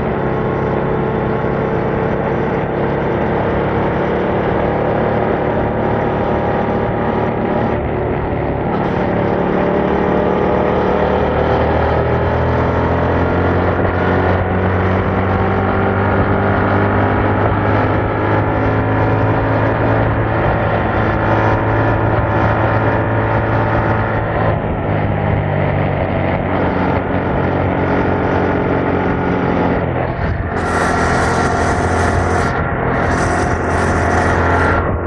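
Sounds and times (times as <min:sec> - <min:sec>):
motorcycle engine running: 0:00.0 - 0:12.1, 0:13.1 - 0:35.0.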